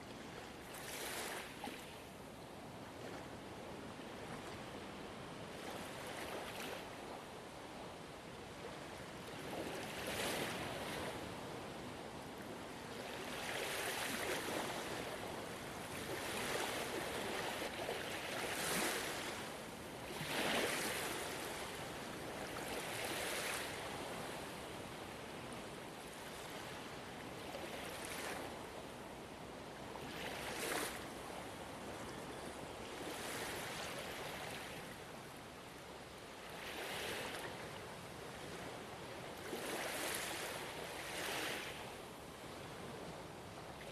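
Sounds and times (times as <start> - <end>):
ocean waves breaking on shore: 0.1 - 7.5, 9.0 - 43.9.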